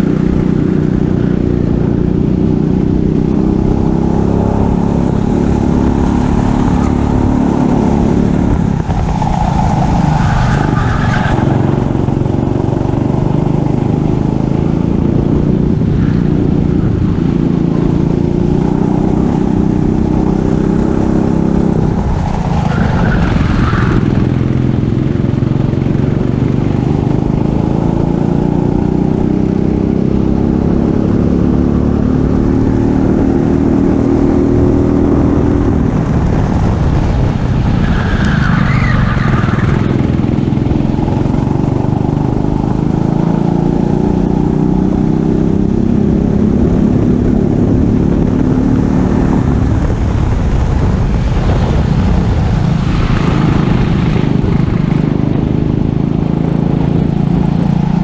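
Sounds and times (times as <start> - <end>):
racing kart engine revving: 2.4 - 58.0.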